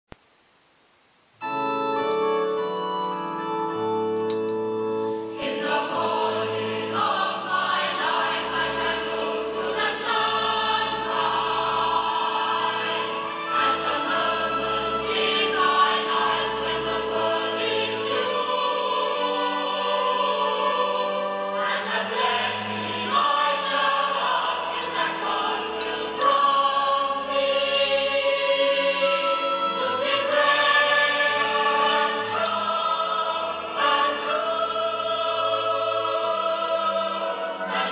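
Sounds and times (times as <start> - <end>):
organ chords: 1.4 - 37.9
choir singing: 5.2 - 37.9.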